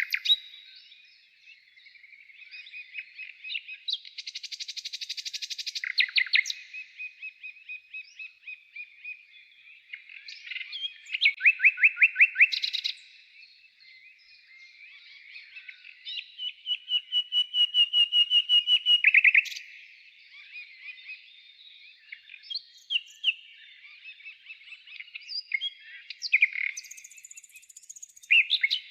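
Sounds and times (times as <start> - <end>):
songbirds singing trills: 0.0 - 28.9.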